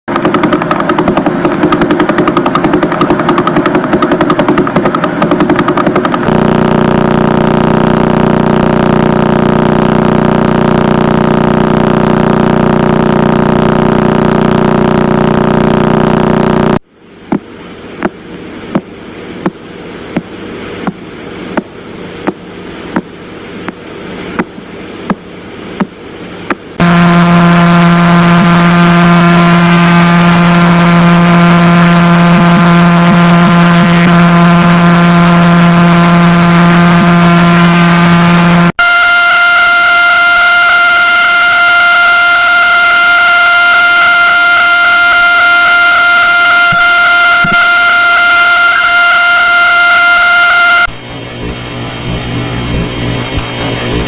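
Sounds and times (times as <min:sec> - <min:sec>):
droning buzz: 0:00.0 - 0:54.0
loud steady hum: 0:00.0 - 0:54.0
dense rapid buzz: 0:00.1 - 0:54.0.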